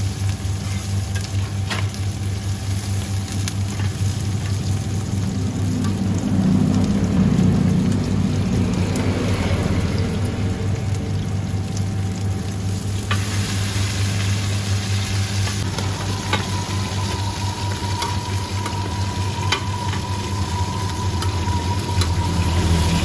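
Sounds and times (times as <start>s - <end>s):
omelettes sizzling in oil: 0.0s - 23.0s.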